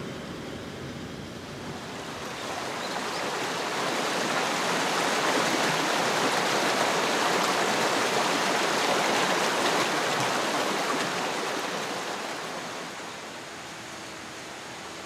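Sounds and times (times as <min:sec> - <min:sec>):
stream rushing over stones: 0:01.7 - 0:15.0.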